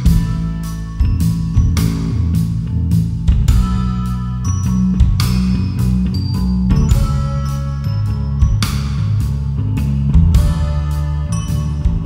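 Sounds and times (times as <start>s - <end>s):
instrumental music with bass: 0.0s - 12.0s.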